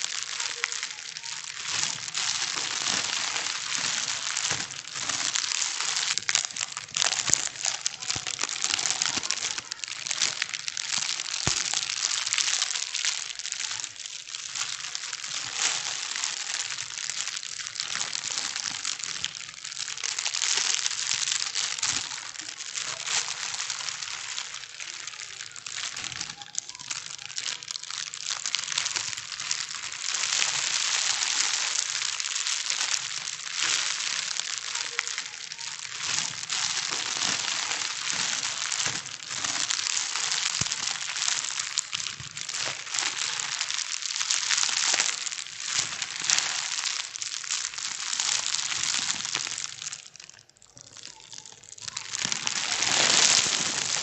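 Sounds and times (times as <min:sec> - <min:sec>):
plastic bags crumpling: 0:00.0 - 0:54.0.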